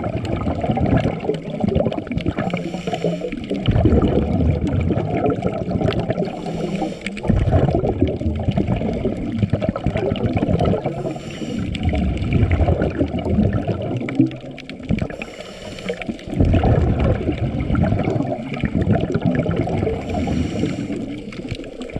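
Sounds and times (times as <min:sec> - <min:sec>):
water gurgling and churning: 0:00.0 - 0:21.9.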